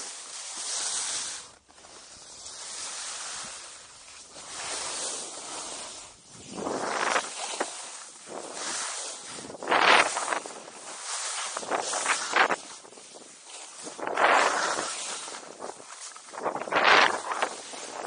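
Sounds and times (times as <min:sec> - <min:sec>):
skis scraping over snow: 0:00.0 - 0:18.0.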